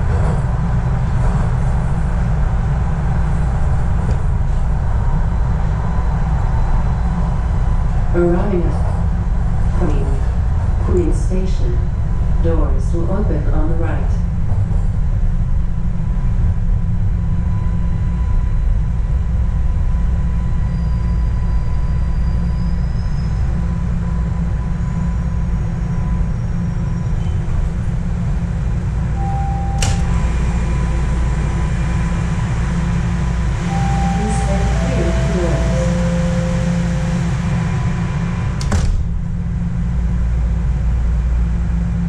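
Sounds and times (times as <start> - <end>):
subway train rumbling: 0.0 - 42.0.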